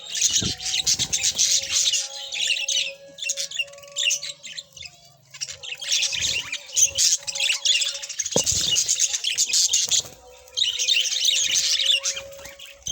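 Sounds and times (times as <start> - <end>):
budgies chattering and chirping: 0.0 - 12.9.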